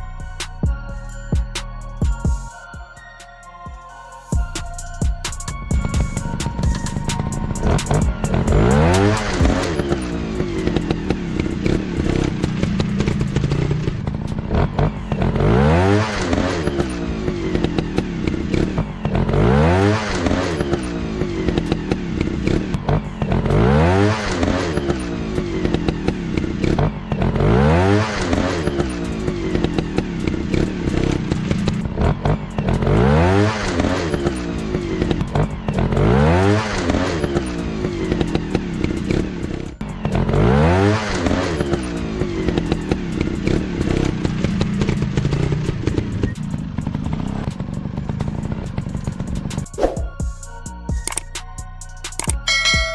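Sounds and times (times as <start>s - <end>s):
dirt bike engines revving: 5.7s - 50.1s.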